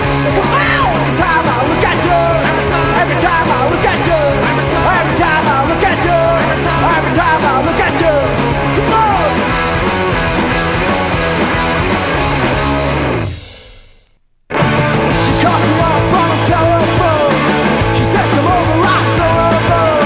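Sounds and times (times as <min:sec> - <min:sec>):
garage punk rock band: 0:00.0 - 0:13.9, 0:14.5 - 0:20.0.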